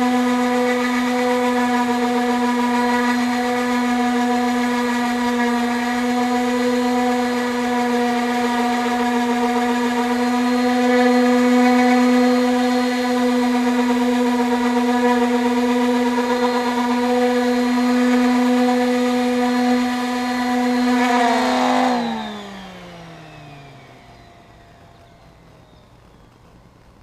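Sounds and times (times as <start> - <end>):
rotary power tool whining: 0.0 - 27.0.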